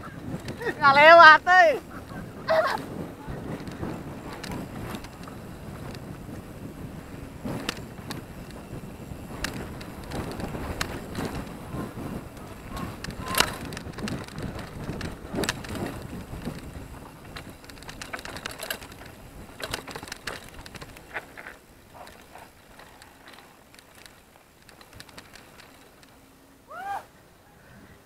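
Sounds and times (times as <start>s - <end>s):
bike rattling over gravel: 0.0s - 26.4s.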